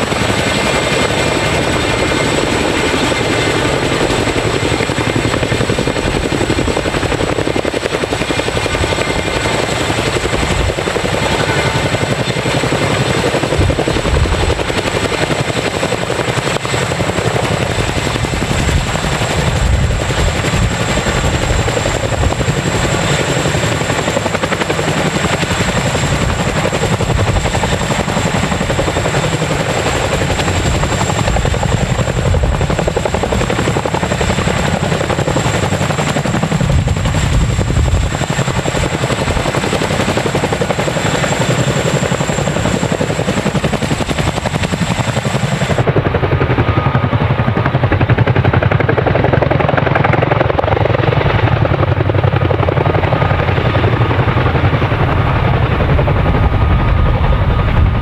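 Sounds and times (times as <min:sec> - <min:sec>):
helicopter rotors beating: 0:00.0 - 0:58.0.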